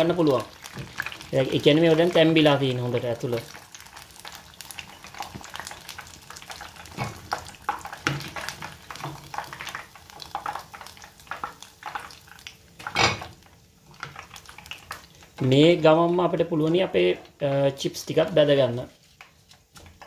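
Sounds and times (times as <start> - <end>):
hot oil crackling and sizzling: 0.0 - 20.0.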